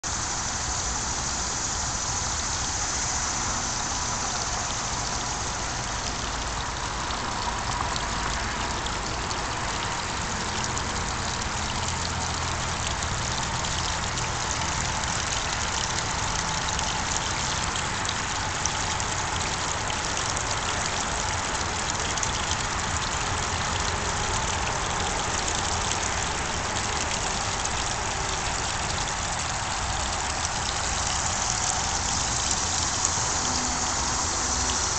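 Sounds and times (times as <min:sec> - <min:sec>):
low steady rumble: 0:00.0 - 0:34.9
water splashing into pond: 0:00.0 - 0:34.9.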